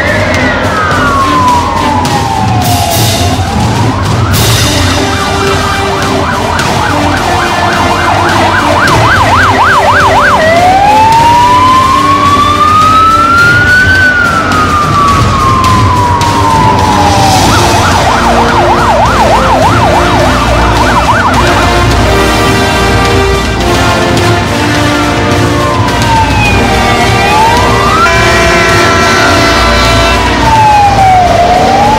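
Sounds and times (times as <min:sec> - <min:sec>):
fire van siren: 0:00.0 - 0:31.9.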